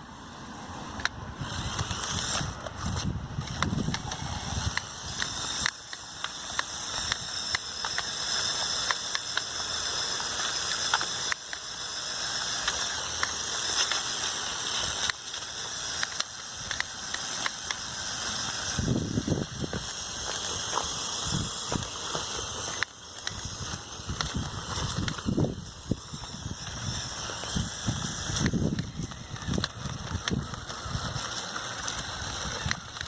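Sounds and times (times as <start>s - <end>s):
electric motor whirring: 0.0s - 33.0s
plastic drivetrain clicks and rattles: 0.9s - 33.0s.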